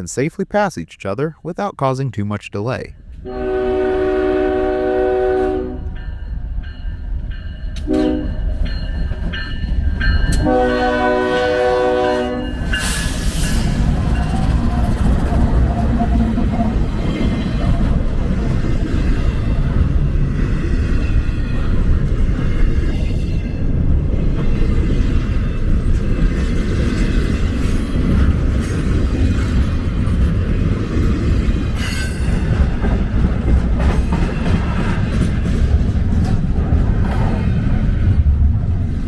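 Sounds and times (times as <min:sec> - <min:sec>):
train wheels rumbling on rails: 0:05.6 - 0:39.0.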